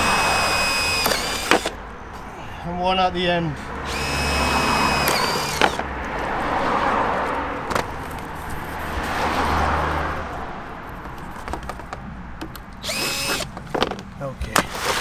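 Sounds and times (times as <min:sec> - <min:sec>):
cars passing by: 0:00.0 - 0:15.0.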